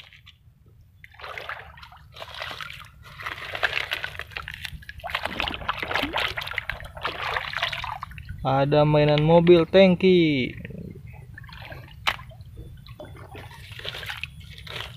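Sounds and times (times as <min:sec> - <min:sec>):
stream water sloshing and splashing: 0:00.0 - 0:09.3, 0:10.4 - 0:14.9.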